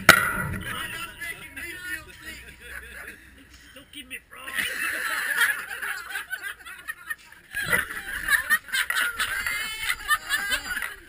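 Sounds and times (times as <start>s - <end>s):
people laughing and snickering: 0.7s - 11.0s.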